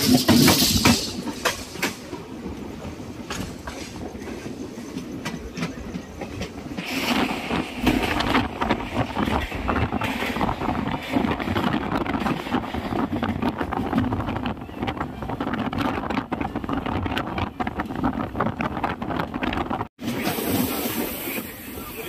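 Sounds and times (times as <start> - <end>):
train rumbling: 0.0 - 22.0
wheels clattering over rail joints: 0.0 - 22.0.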